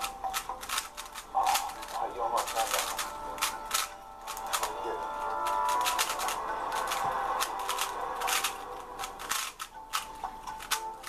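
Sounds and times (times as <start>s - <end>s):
puzzle cube plastic clicks: 0.0s - 11.0s.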